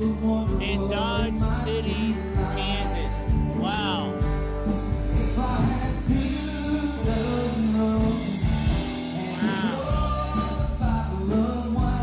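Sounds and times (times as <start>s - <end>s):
person singing: 0.0s - 4.2s, 5.2s - 12.0s
heavy bass and drum beat: 0.0s - 12.0s.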